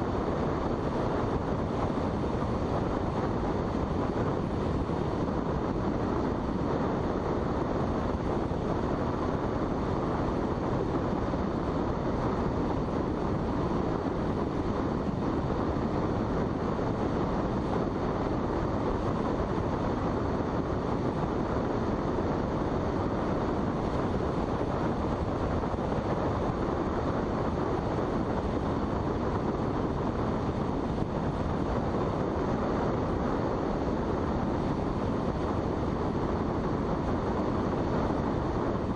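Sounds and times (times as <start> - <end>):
airflow and wind noise: 0.0 - 38.9.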